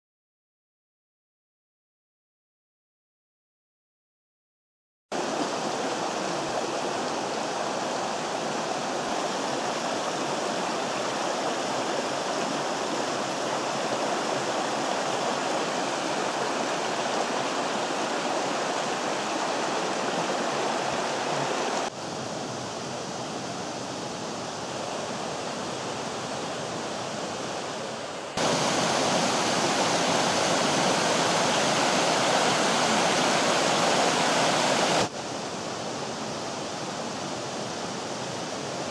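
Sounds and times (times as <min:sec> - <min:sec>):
stream rushing over rocks: 0:05.1 - 0:38.9.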